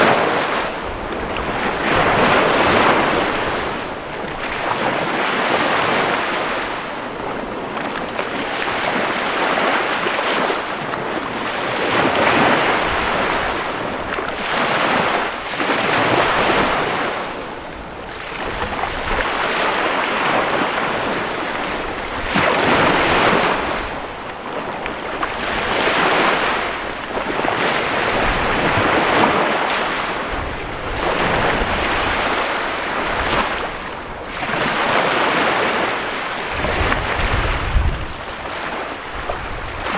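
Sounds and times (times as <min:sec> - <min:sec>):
waves washing up a sandy shore: 0:00.0 - 0:39.9.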